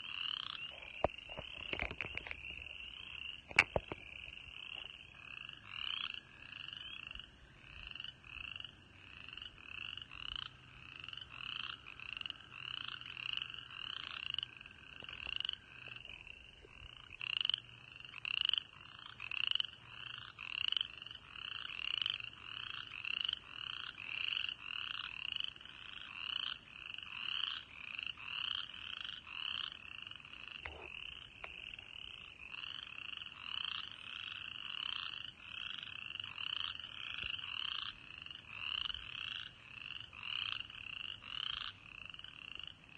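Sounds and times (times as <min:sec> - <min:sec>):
frog chorus peeping: 0:00.0 - 0:42.9.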